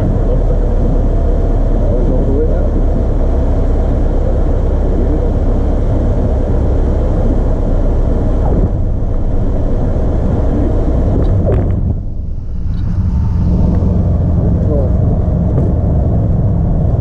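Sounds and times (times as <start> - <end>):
aircraft engine running: 0.0 - 17.0
wheels rumbling on runway: 0.0 - 17.0.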